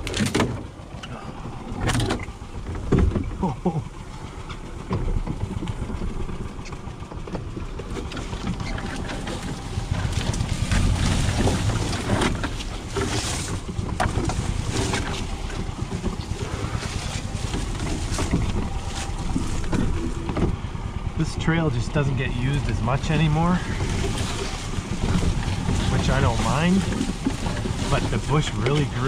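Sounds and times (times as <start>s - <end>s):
golf cart rumble: 0.0s - 29.0s
branches scraping against cart: 4.0s - 29.0s.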